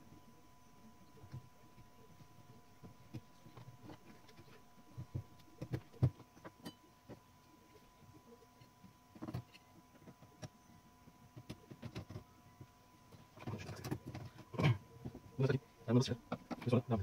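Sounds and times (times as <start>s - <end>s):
faint high hum: 0.0s - 17.0s.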